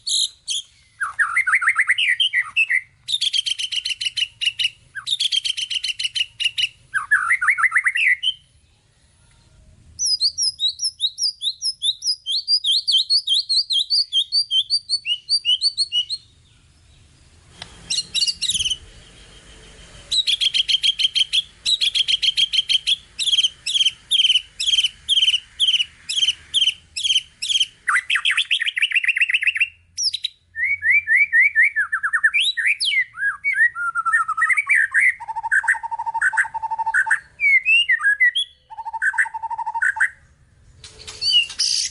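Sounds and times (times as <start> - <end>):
bird singing varied song: 0.0 - 41.9.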